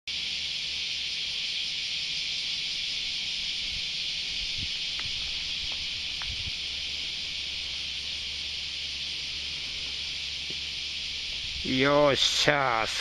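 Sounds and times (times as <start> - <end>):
cicadas chorus: 0.1 - 13.0.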